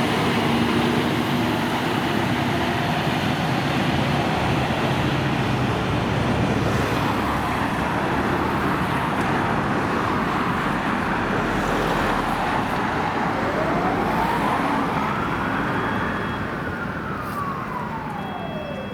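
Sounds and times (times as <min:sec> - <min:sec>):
fire engine siren wailing: 0:00.0 - 0:18.9
heavy road vehicle noise: 0:00.0 - 0:18.9.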